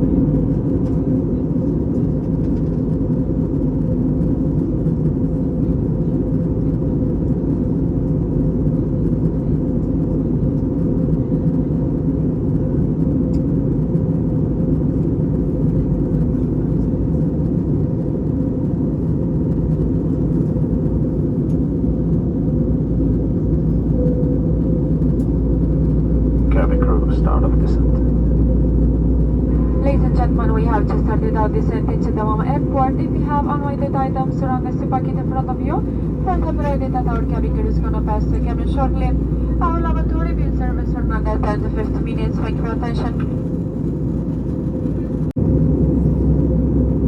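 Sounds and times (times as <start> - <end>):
airliner cabin engine rumble: 0.0 - 47.0.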